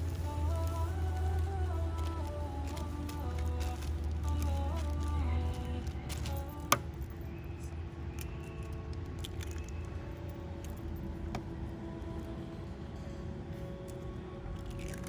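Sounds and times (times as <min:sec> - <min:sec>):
background music: 0:00.0 - 0:15.0
steady low hum: 0:00.0 - 0:15.0.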